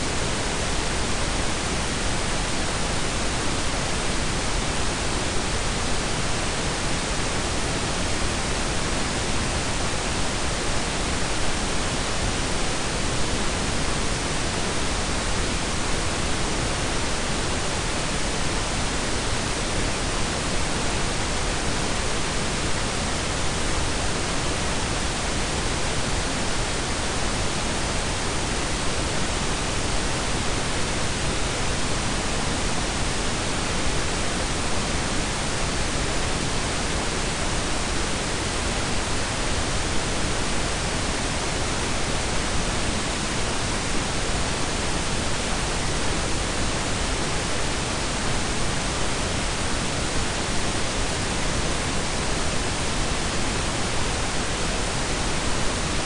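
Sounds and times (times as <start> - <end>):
steady pink and brown noise: 0.0 - 56.0.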